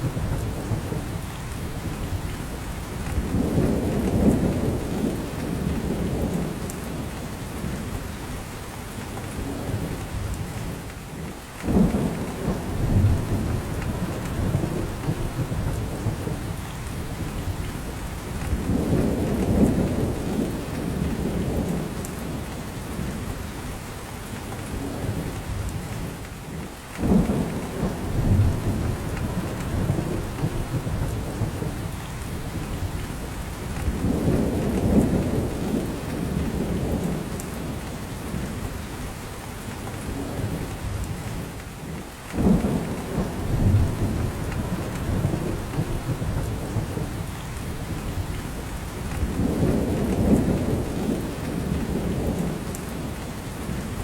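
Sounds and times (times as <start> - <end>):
steady rain in forest: 0.0 - 54.0.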